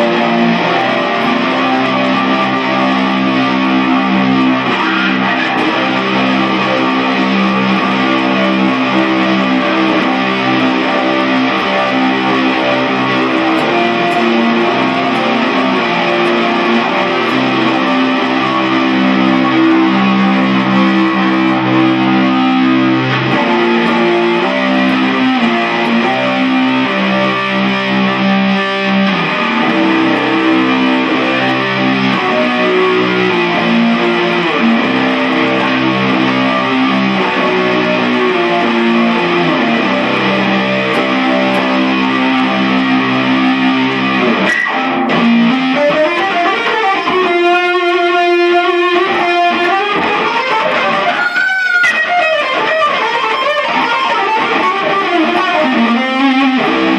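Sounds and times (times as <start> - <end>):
distorted electric guitar: 0.0 - 56.9.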